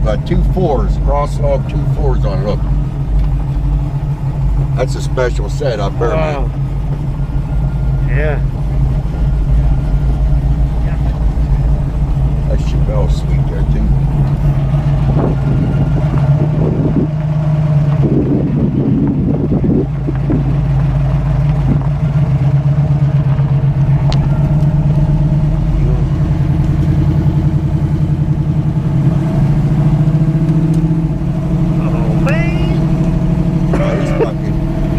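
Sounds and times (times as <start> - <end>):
car engine droning from inside: 0.0 - 34.9.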